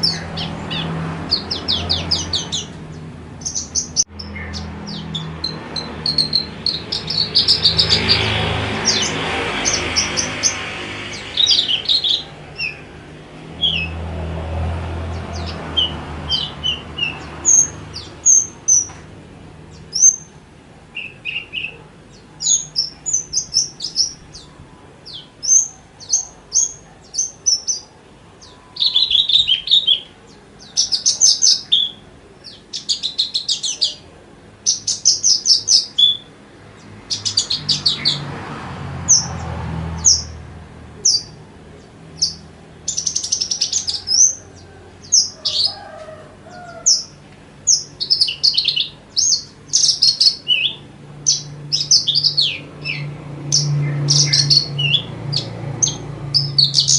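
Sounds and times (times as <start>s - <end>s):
lark singing chirps and trills: 0.0s - 14.0s, 15.1s - 19.0s, 19.7s - 38.2s, 40.0s - 40.4s, 41.0s - 56.9s.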